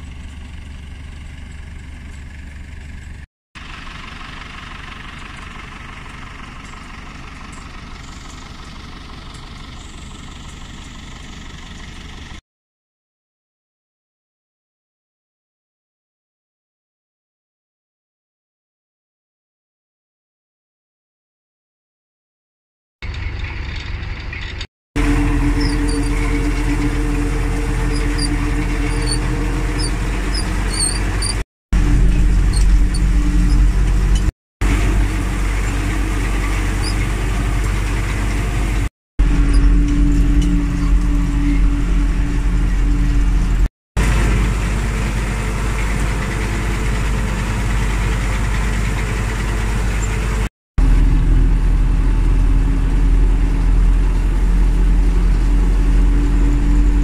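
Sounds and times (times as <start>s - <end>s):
tractor diesel engine running: 0.0s - 12.4s, 23.0s - 57.0s.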